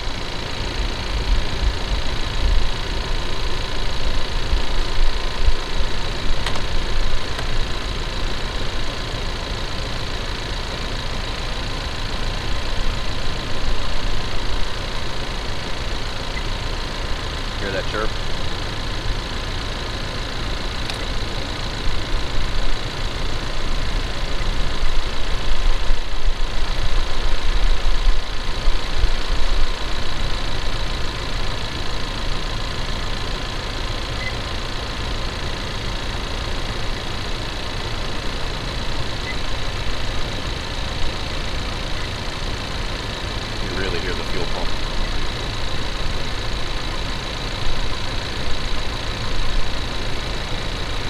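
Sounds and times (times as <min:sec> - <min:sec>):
engine idling through stethoscope: 0:00.0 - 0:51.0
faint steady whine: 0:00.0 - 0:51.0.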